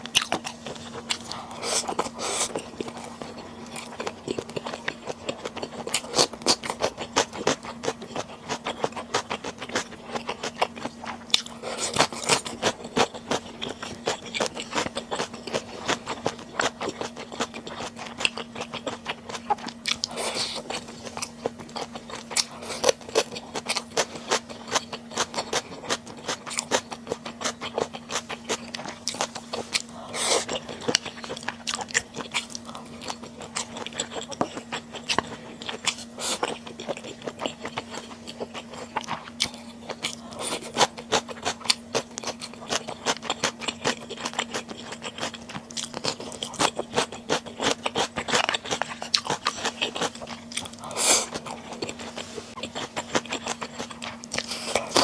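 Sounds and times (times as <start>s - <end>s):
faint steady hum: 0.0s - 55.0s
wet chewing and mouth smacks: 0.0s - 55.0s.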